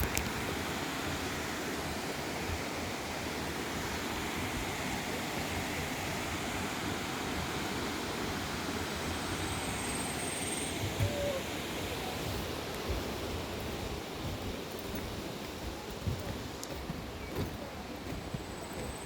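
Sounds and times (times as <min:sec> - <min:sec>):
rushing rumbling outdoor noise: 0:00.0 - 0:19.0.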